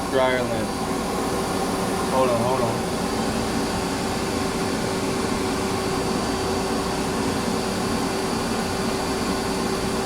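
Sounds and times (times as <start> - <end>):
vacuum running: 0.0 - 10.0.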